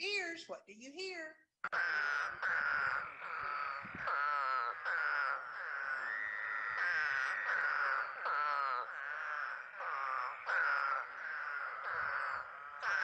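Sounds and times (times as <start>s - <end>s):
toads calling: 1.6s - 13.0s.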